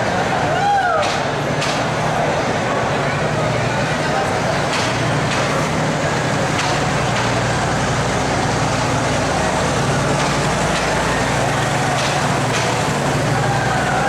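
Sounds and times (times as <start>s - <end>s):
railway engine humming: 0.0s - 14.0s.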